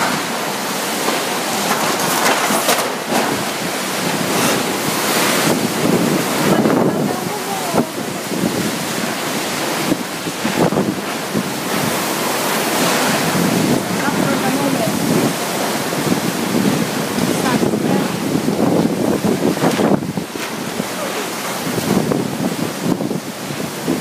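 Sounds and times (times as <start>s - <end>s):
driving rain: 0.0s - 24.0s
strong wind gusting: 0.0s - 24.0s
wind buffeting microphone: 0.0s - 24.0s.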